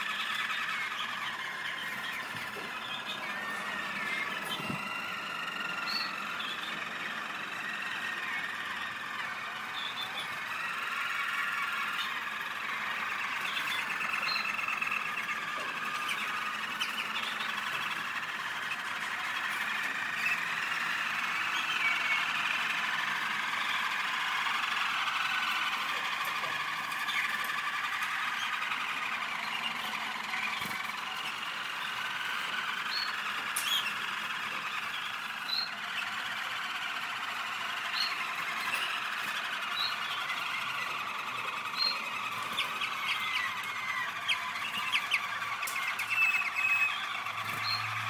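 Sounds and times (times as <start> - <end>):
canaries singing trilled song: 0.0 - 48.0.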